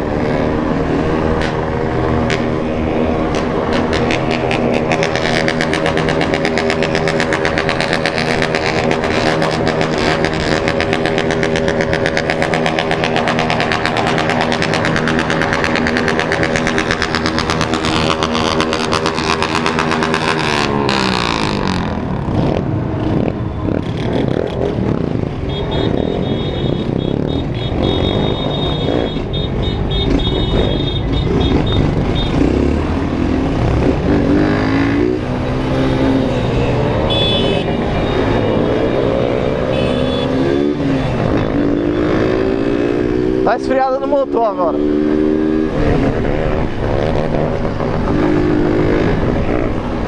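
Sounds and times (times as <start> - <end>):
many motorcycles running: 0.0 - 50.0.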